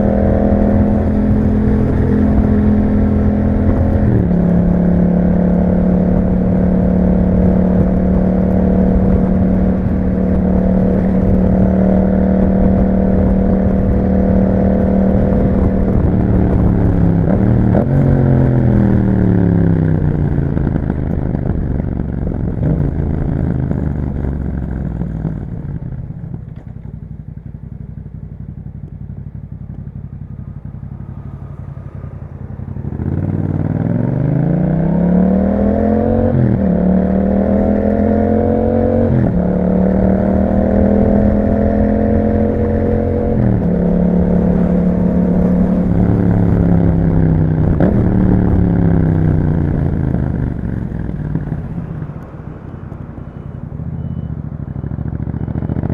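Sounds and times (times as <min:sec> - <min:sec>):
gear change: 0:00.0 - 0:55.9
motorcycle engine: 0:00.0 - 0:55.9.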